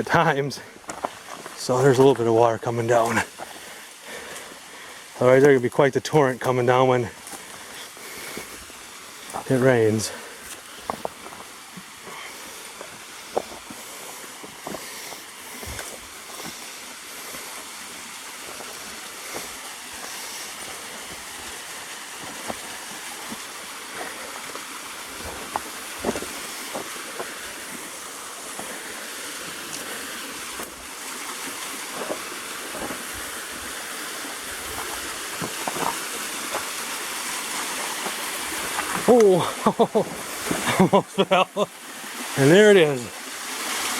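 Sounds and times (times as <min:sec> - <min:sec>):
small waterfall rushing: 0:00.0 - 0:43.9
footsteps over rock and brush: 0:00.4 - 0:04.6, 0:05.2 - 0:41.0.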